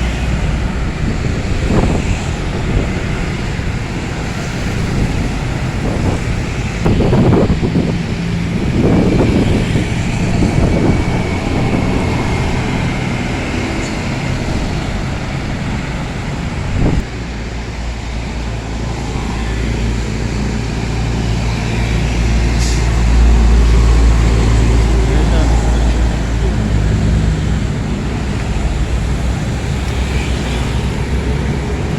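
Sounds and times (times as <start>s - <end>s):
deep engine drone: 0.0s - 31.9s
truck engine and road noise: 0.0s - 31.9s.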